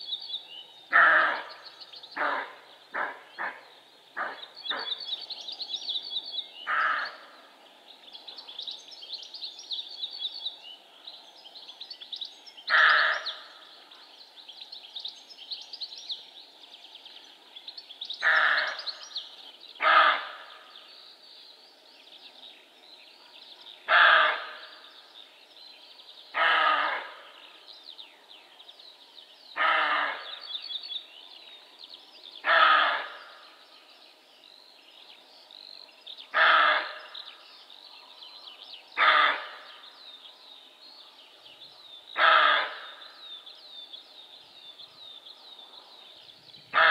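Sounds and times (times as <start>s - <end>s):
birdsong chirps: 0.0s - 46.9s.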